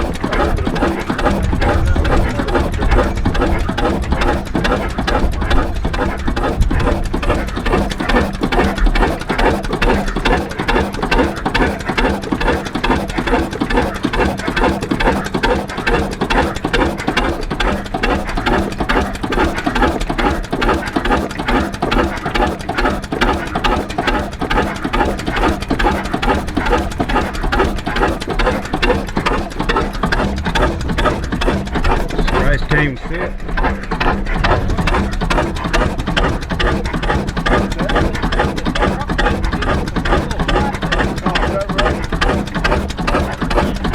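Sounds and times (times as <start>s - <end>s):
stationary engine clattering: 0.0s - 43.9s.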